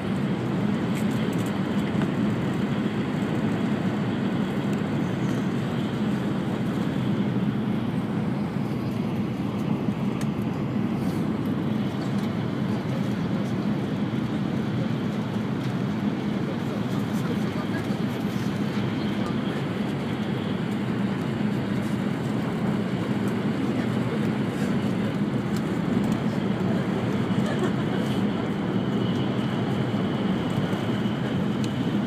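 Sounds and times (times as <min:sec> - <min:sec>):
train rumbling at speed: 0:00.0 - 0:32.0.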